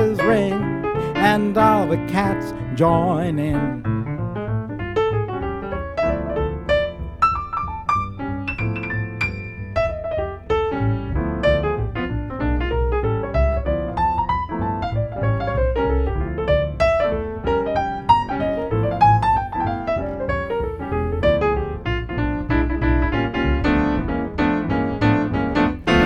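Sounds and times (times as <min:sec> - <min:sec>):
swing piano music: 0:00.0 - 0:26.0.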